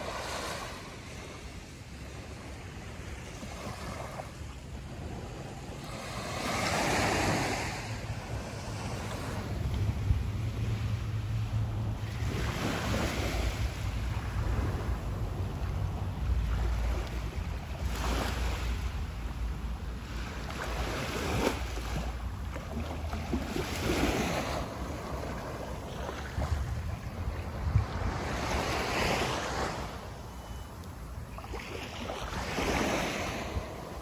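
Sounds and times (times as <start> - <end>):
small waves breaking on beach: 0.0 - 34.0
wind rumble on microphone: 0.0 - 34.0.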